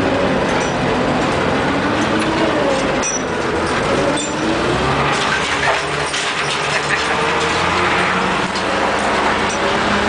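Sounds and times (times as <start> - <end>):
road and cab noise: 0.0 - 10.0
truck engine running: 0.0 - 10.0.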